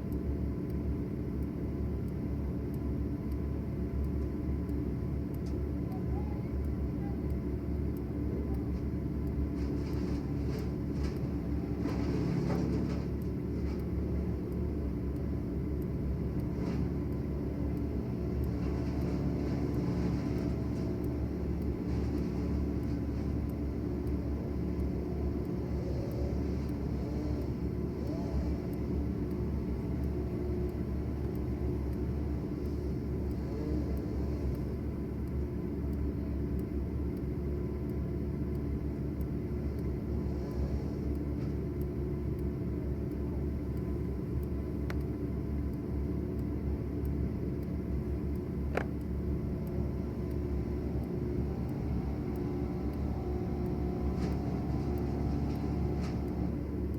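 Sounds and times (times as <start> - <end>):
large engine rumbling: 0.0 - 56.9.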